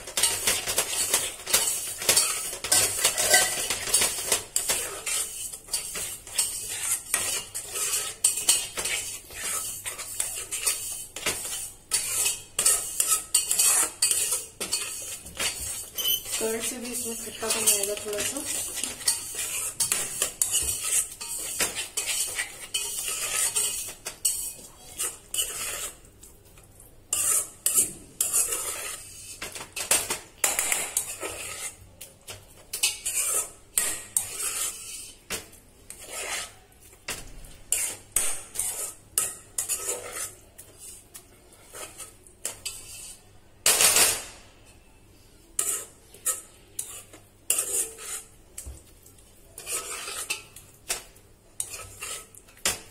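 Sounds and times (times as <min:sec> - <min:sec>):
spatula scraping a pan: 0:00.0 - 0:52.9.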